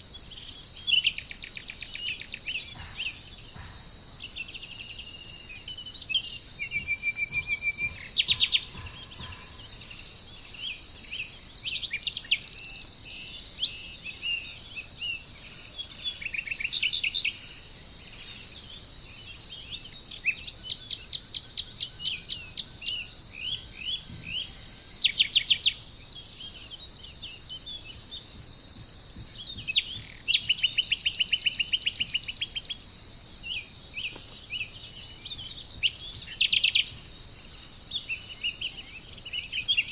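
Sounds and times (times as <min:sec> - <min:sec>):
birds chirping and trilling: 0:00.0 - 0:39.9
insects droning: 0:00.0 - 0:39.9.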